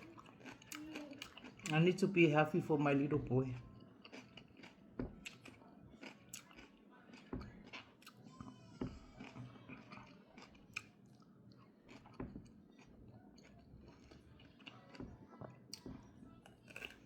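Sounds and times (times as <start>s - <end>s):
person chewing crunchy food: 0.0s - 2.0s, 3.3s - 17.0s.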